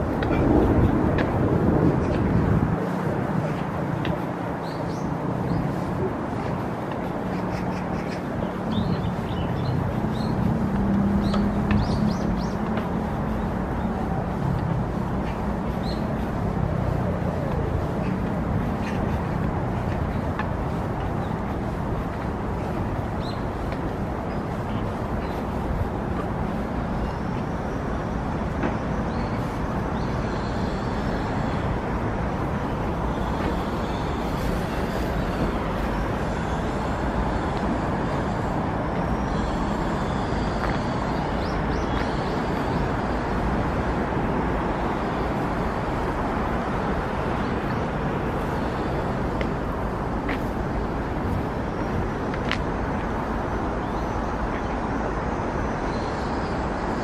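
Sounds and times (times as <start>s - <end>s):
steady outdoor rumble and hiss: 0.0s - 57.0s.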